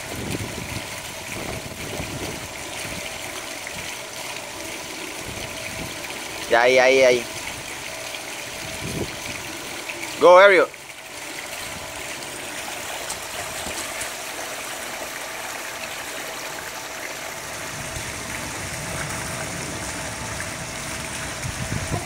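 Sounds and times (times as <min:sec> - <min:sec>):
swimmer sloshing water: 0:00.0 - 0:22.0
water cascade rushing: 0:00.0 - 0:22.0.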